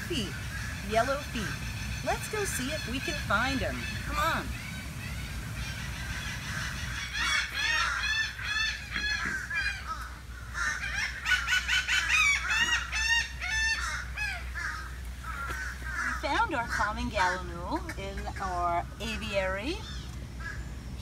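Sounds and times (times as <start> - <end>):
birds calling in quick runs: 0.0 - 21.0.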